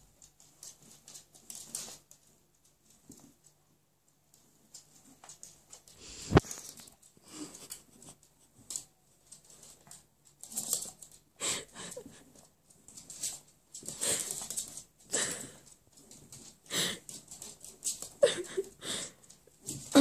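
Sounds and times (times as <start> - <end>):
puppy paws pattering on floor: 0.0 - 20.0.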